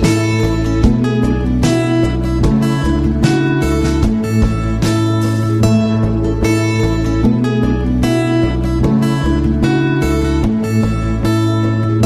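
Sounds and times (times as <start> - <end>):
guitar background music: 0.0 - 12.0
sustained low bass: 0.0 - 12.0.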